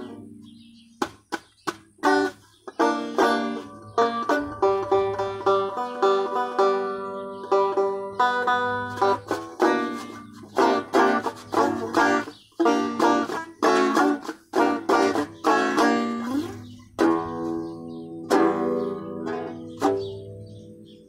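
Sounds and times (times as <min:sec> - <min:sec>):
banjo picking: 0:00.0 - 0:21.0.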